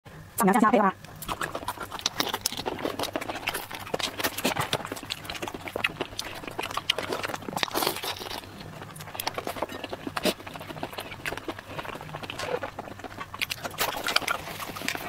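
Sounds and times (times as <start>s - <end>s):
wet eating smacks and clicks: 1.1s - 15.0s.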